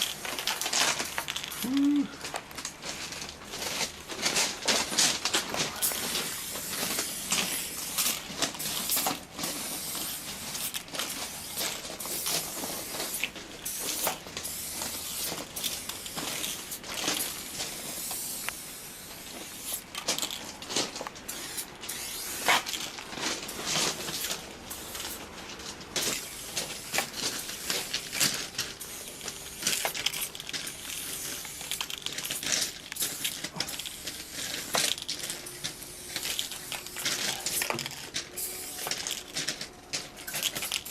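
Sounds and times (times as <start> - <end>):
spray paint cans hissing: 0.0 - 40.9.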